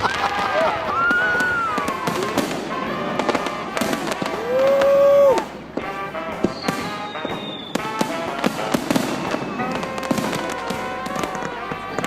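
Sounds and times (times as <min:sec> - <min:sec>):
firework whistle: 0:00.0 - 0:12.0
fireworks cracking and banging: 0:00.0 - 0:12.0.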